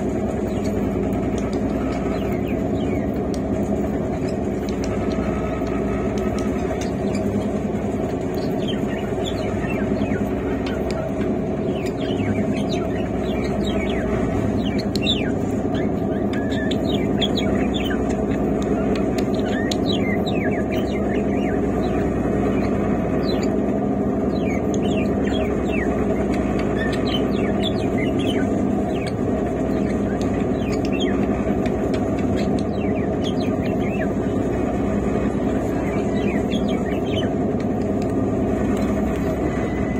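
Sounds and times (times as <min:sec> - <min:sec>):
birds chirping: 0:00.0 - 0:39.9
train coach rumble: 0:00.0 - 0:39.9.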